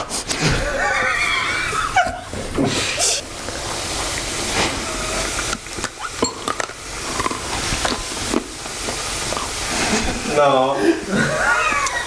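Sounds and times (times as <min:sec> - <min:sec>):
oil sizzling with pops: 0:00.0 - 0:12.0.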